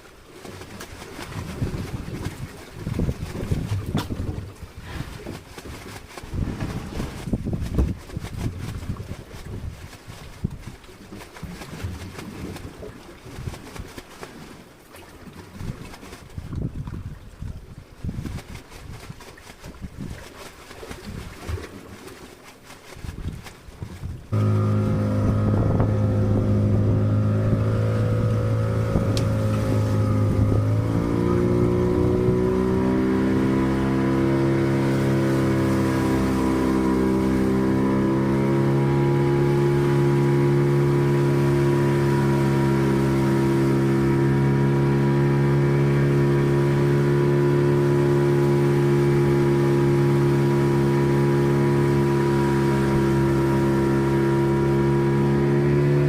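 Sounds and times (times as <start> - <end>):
boat engine running: 0.0 - 14.2, 20.9 - 56.0.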